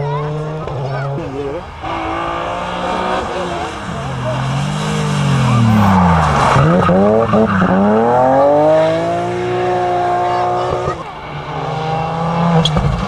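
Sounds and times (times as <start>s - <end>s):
rally car engine approaching: 0.0s - 13.0s
rally car engine revving hard: 0.0s - 13.0s.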